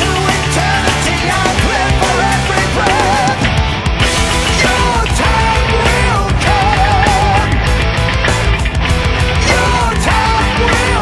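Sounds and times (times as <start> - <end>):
hard rock music: 0.0 - 11.0.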